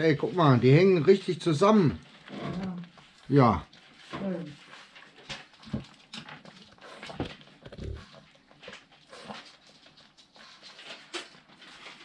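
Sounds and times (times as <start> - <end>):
dog snuffling: 0.0 - 12.0.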